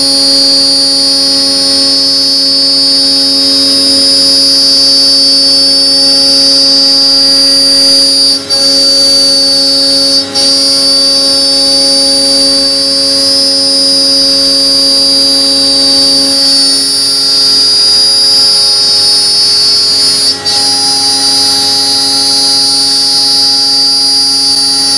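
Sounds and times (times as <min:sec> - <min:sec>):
router spindle whining: 0:00.0 - 0:24.9.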